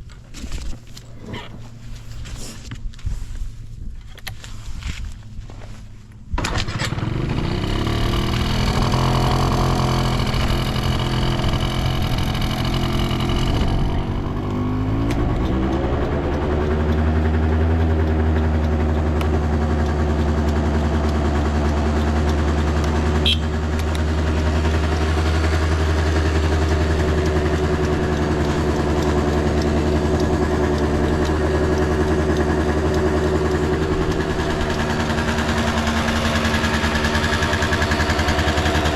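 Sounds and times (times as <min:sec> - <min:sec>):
scooter engine starting and running: 0:00.0 - 0:03.4, 0:04.2 - 0:38.9.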